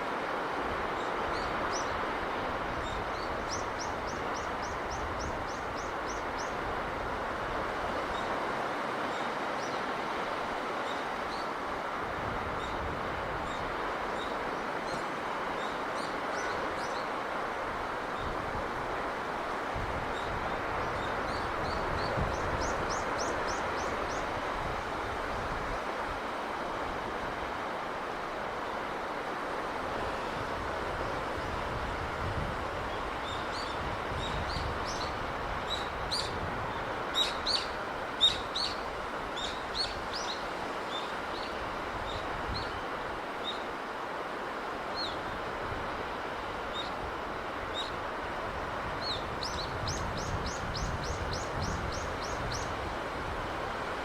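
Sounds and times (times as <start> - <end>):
sea surf rushing: 0.0 - 54.0.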